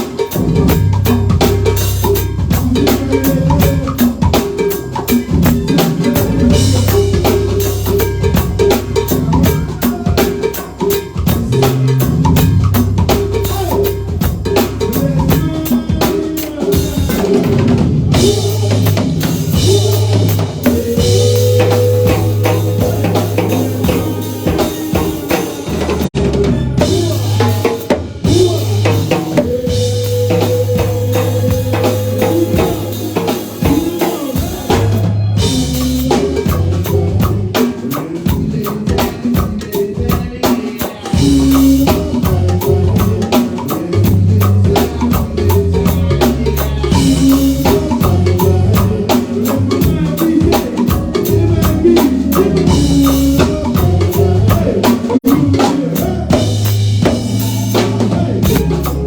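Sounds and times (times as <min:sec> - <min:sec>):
band playing instrumental: 0:00.0 - 0:59.0
drum kit beat: 0:00.0 - 0:59.0.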